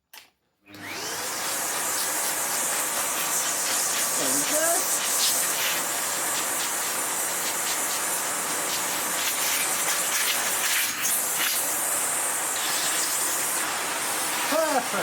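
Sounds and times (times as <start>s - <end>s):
vacuum cleaner suction hissing: 0.7s - 15.0s.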